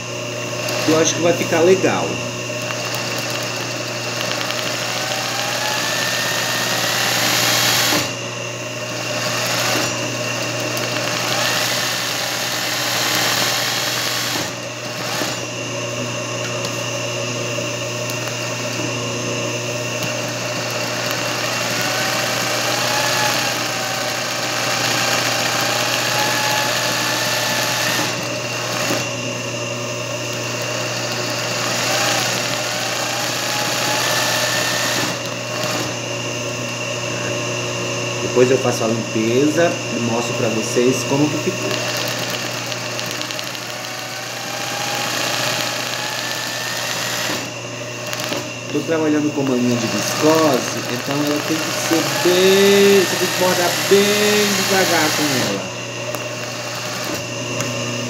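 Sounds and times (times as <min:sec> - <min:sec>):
sewing machine running: 0:00.6 - 0:08.2, 0:08.8 - 0:15.5, 0:19.9 - 0:29.2, 0:30.2 - 0:36.0, 0:40.1 - 0:57.3.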